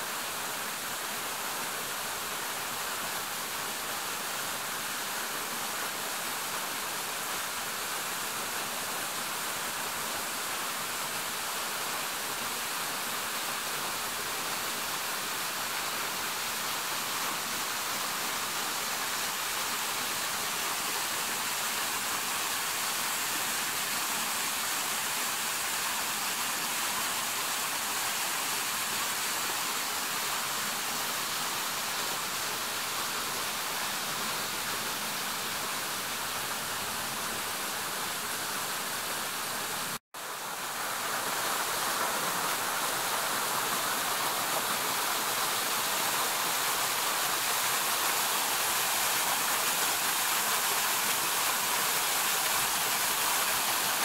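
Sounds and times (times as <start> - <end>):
waterfall splashing over rocks: 0.0 - 54.0.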